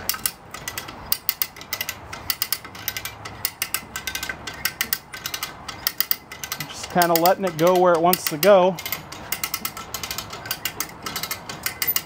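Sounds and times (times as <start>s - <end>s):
ratchet pawl clicking: 0.0s - 12.0s.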